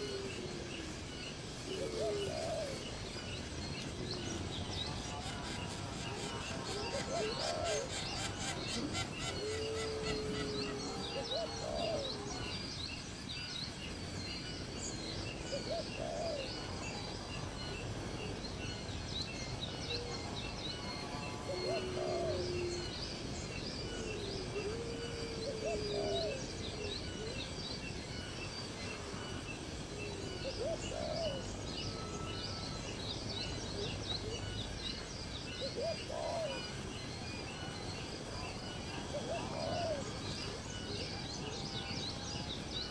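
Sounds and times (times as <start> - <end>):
birds calling: 0.0 - 42.9.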